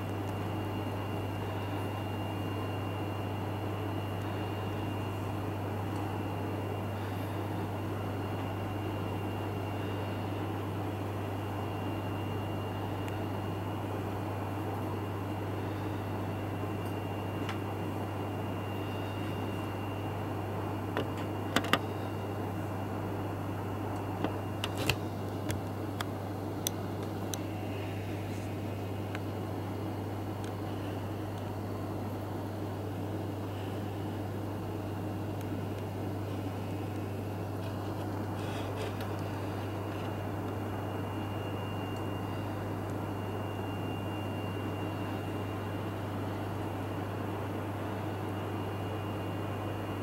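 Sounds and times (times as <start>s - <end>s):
faint high whine: 0.0s - 50.0s
steady low hum: 0.0s - 50.0s.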